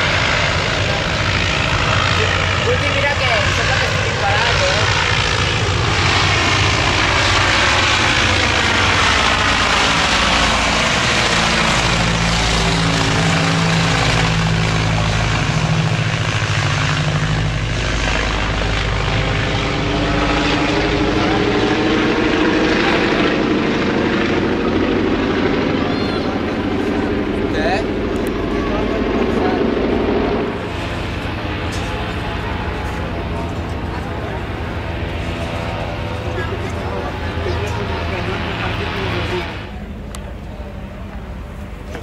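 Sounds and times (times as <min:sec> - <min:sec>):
propeller plane engines droning: 0:00.0 - 0:42.0.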